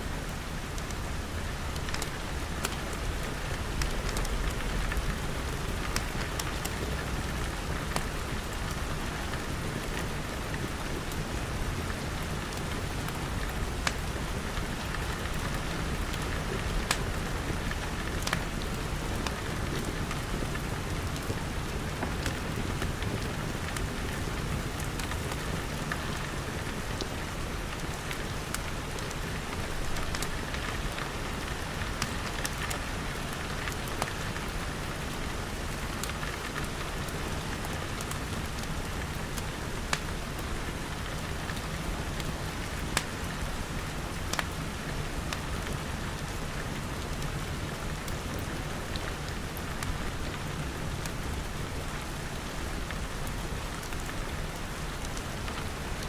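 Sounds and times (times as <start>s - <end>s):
wood fire crackling: 0.3s - 56.0s
rain pattering on glass: 0.8s - 56.0s.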